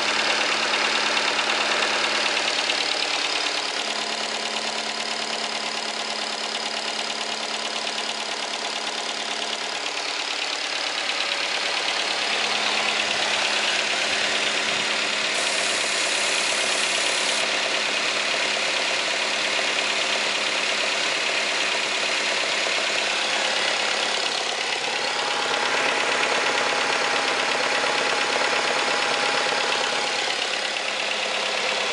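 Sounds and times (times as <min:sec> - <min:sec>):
car engine idling: 0:00.0 - 0:31.9
engine knock: 0:00.0 - 0:31.9.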